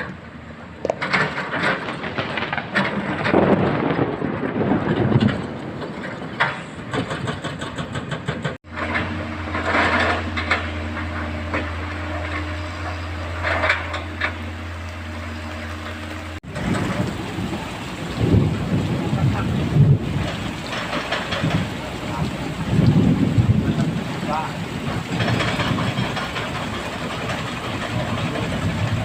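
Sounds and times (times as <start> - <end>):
rain falling: 0.0 - 7.6, 8.6 - 29.0
heavy machinery diesel engine: 0.0 - 29.0.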